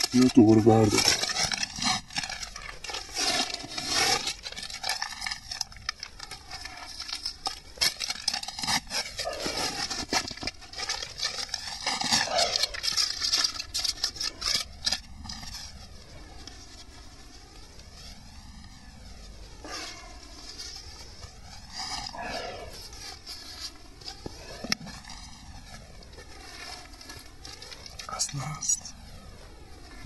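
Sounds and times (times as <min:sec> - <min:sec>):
plastic bag crinkling: 0:00.0 - 0:18.6, 0:19.6 - 0:29.6.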